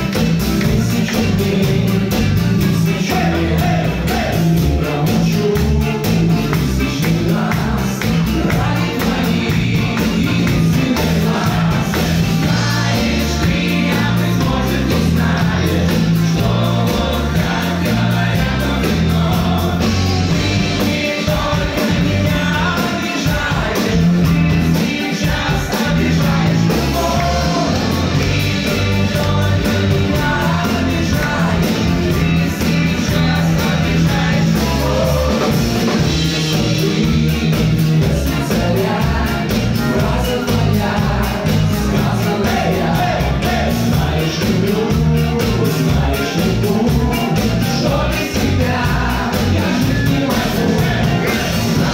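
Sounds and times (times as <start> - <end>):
bass line: 0.0 - 51.9
live pop rock band: 0.0 - 51.9
person singing: 0.0 - 51.9.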